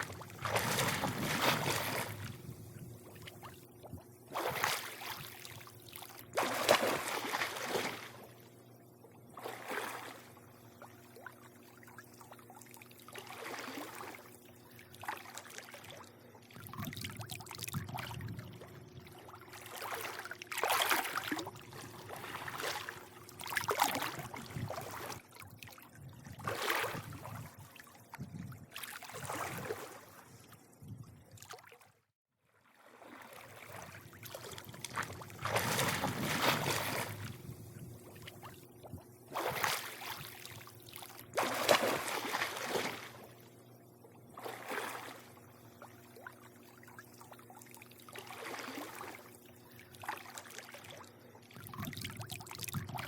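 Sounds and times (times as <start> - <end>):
faint steady hum: 0.0 - 32.0, 32.7 - 53.0
pool water lapping and sloshing: 0.0 - 53.0.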